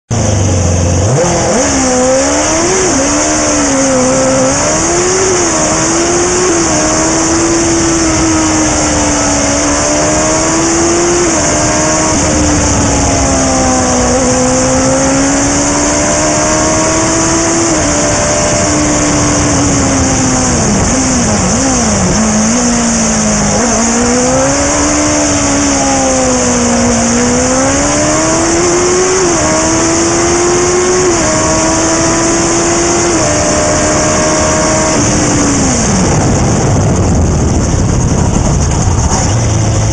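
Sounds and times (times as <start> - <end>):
racing car engine revving: 0.1 - 39.9.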